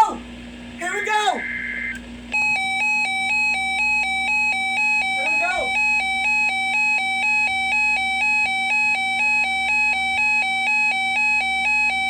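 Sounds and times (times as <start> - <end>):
two-pitch electronic alert tone: 0.9 - 12.0.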